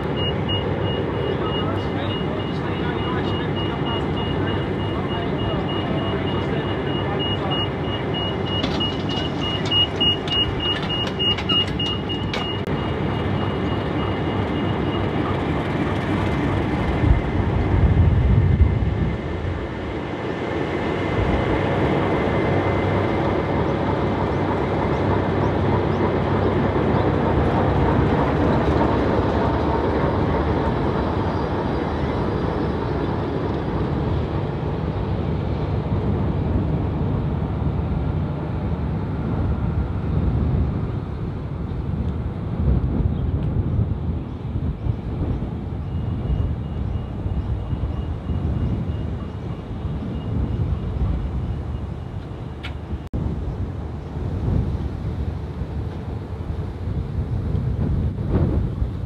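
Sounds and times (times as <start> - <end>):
diesel locomotive engines rumbling: 0.0 - 59.0.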